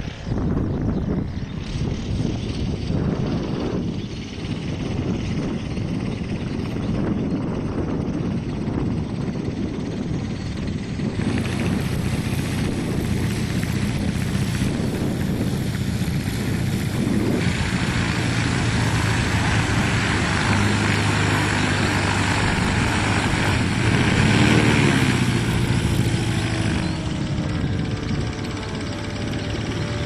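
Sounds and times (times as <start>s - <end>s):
propeller airplane engine: 0.0s - 30.0s.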